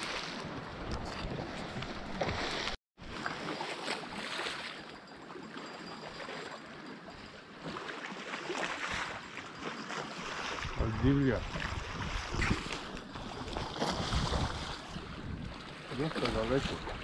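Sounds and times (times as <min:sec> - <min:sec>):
sea water lapping at shore: 0:00.0 - 0:17.0.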